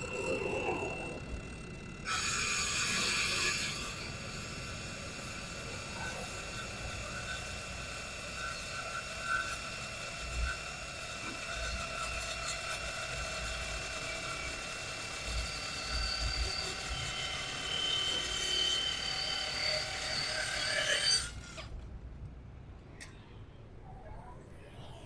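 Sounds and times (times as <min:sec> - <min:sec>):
blade screeching on steel: 0:00.0 - 0:21.7
saw motor whine: 0:00.0 - 0:21.7.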